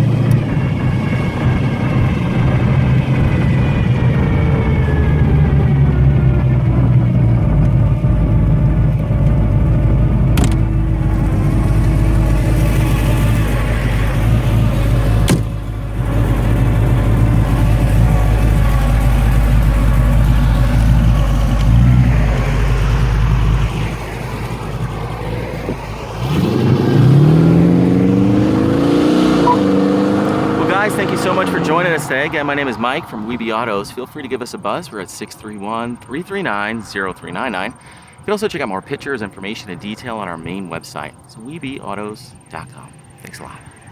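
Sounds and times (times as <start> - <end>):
car engine running while driving: 0.0 - 34.7, 39.0 - 43.9.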